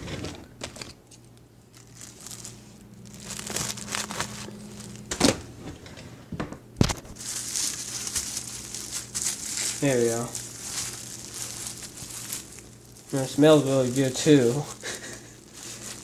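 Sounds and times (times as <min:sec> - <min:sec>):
plastic wrapping crinkling: 0:01.3 - 0:05.3, 0:06.8 - 0:16.0.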